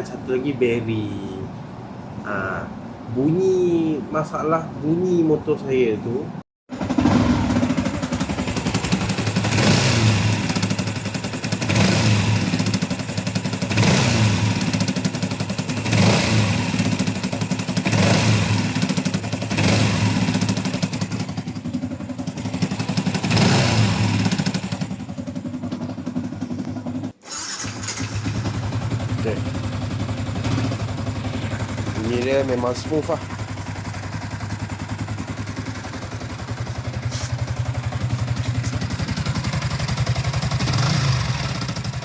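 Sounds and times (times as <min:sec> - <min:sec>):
motorcycle engine revving: 0:06.7 - 0:42.0.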